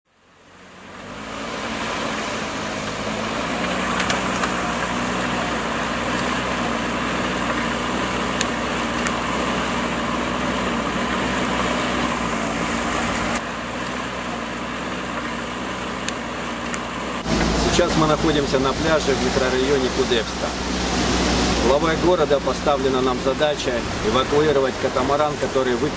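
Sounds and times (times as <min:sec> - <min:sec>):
constant hiss: 0:00.1 - 0:25.9
vehicle engine running: 0:00.1 - 0:25.9.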